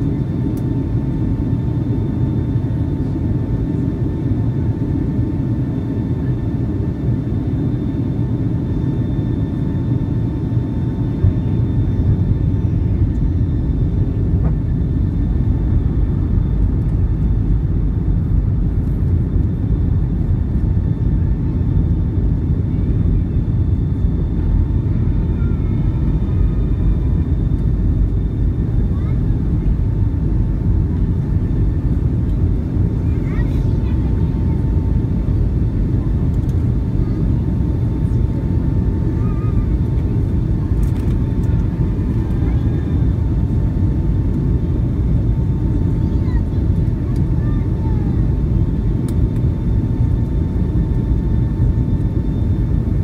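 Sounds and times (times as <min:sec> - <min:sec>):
rumble of engines and airflow: 0:00.0 - 0:53.0.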